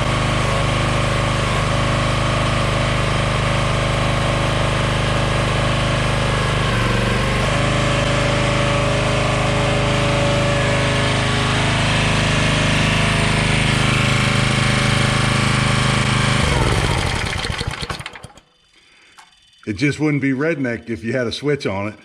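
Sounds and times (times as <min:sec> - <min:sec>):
small gasoline engine running: 0:00.0 - 0:19.2.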